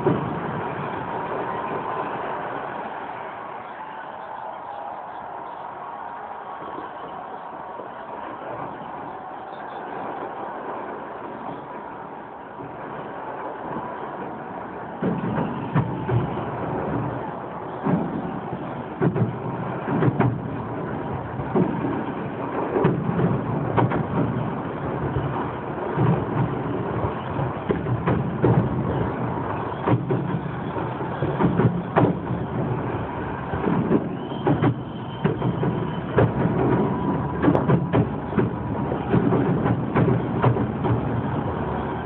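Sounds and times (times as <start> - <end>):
continuous low rumble: 0.0 - 42.0
firework bangs and crackling: 0.0 - 42.0.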